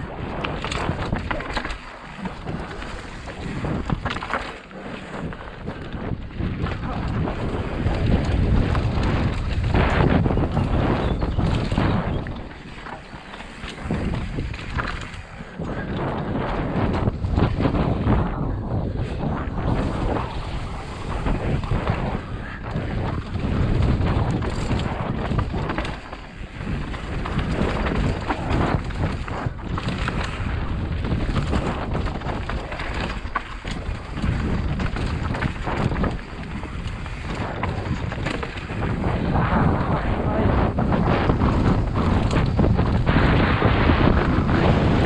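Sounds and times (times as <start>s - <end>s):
mountain bike rattling on rocky trail: 0.0s - 45.0s
wind buffeting microphone: 0.0s - 45.0s.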